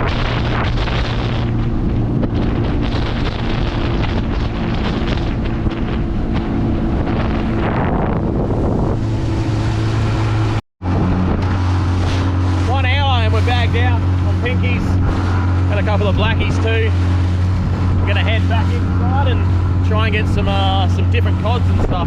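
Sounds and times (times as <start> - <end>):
boat engine running: 0.0 - 22.0
rush of wind and water: 0.0 - 22.0
wind buffeting microphone: 0.0 - 22.0.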